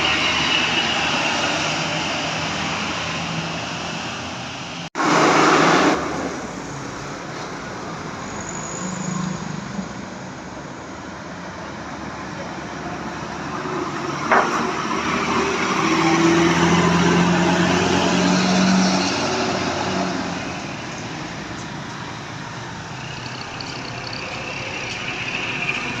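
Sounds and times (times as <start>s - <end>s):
bus driving past: 0.0s - 26.0s.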